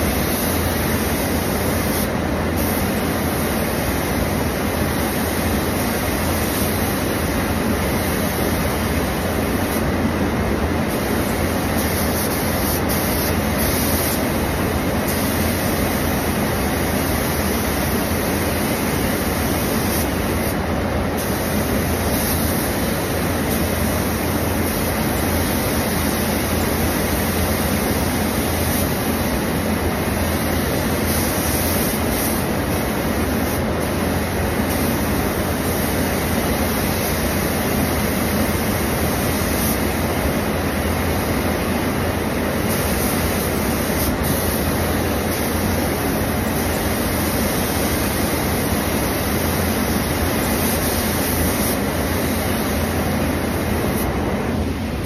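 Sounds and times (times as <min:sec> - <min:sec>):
spray booth airflow rushing: 0:00.0 - 0:55.0
spray gun hissing: 0:00.0 - 0:55.0.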